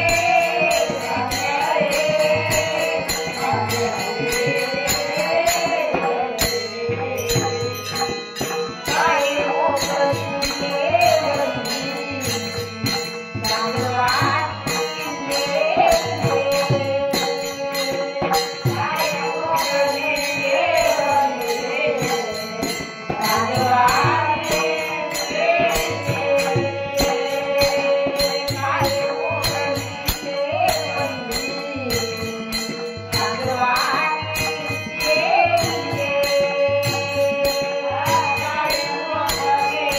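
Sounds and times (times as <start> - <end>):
devotional song melody: 0.0 - 39.9
hand cymbals: 0.0 - 39.9.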